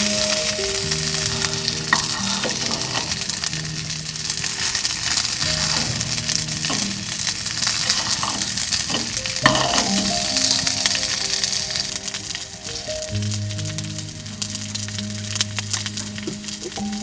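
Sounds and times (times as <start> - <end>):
soft background music: 0.0 - 17.0
steak sizzling in a pan: 0.0 - 17.0.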